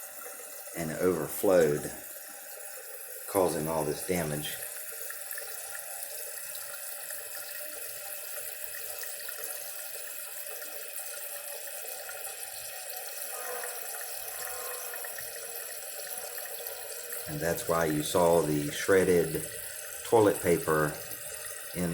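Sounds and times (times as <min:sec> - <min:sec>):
toilet tank refilling: 0:00.0 - 0:21.9.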